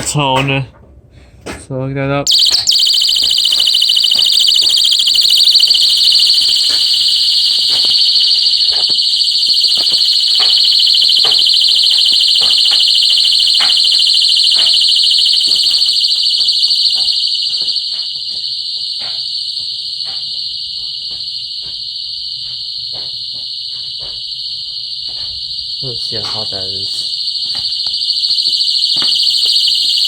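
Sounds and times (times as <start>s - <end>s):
fire alarm horn warbling: 2.3s - 30.0s.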